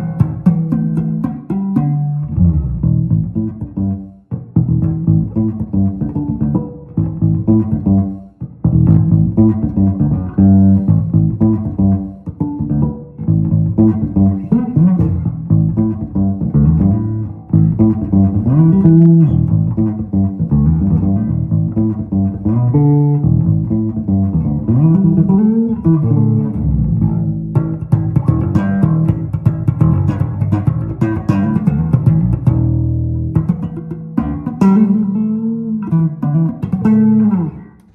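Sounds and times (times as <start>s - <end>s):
electric bass guitar plucked: 0.0s - 37.9s.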